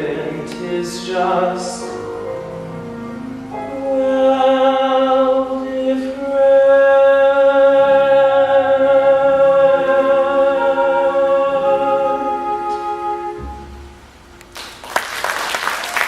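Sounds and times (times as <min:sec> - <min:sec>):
musical accompaniment: 0:00.0 - 0:16.0.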